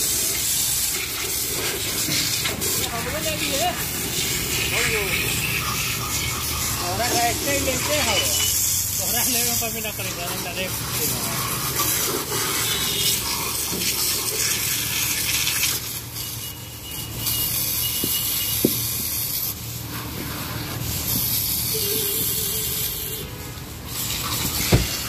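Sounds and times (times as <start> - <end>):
pressure washer water jet hissing: 0.0 - 25.0.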